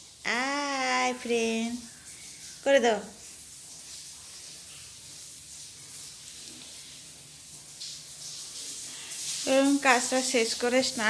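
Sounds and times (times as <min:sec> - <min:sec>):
low room noise hiss: 0:00.0 - 0:11.0.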